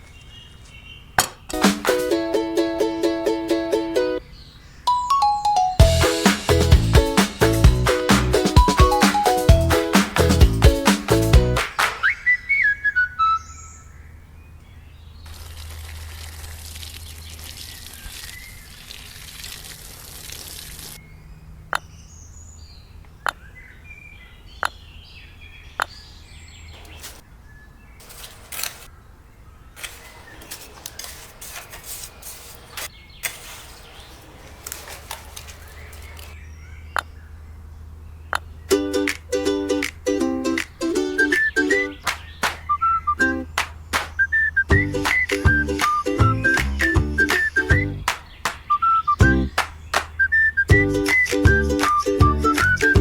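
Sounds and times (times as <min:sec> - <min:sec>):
birds chirping: 0:00.0 - 0:02.0, 0:04.1 - 0:39.3, 0:40.6 - 0:53.0.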